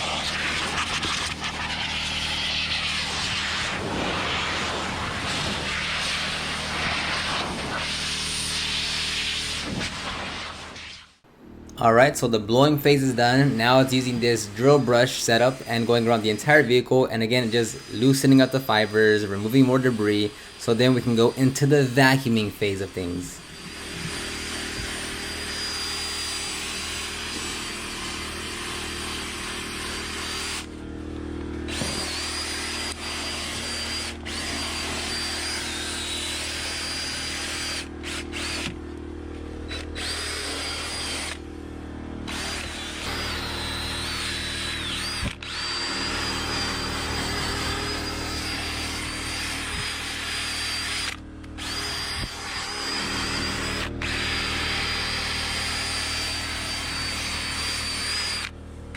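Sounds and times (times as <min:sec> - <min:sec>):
cordless drill motor whine: 0:00.0 - 0:10.8, 0:12.6 - 0:58.9.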